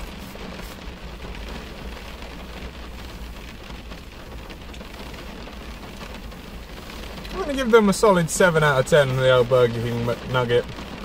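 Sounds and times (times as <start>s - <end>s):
heavy rain on car roof: 0.0s - 11.0s.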